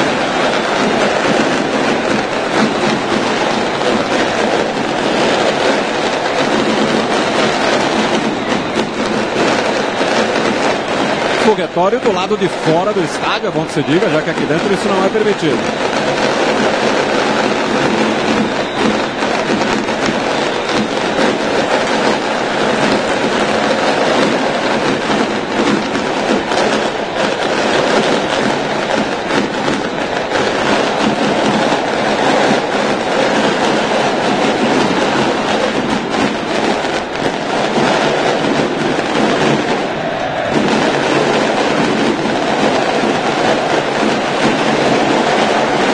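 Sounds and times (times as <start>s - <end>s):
fireworks crackling: 0.0s - 45.9s
stadium crowd noise: 0.0s - 45.9s.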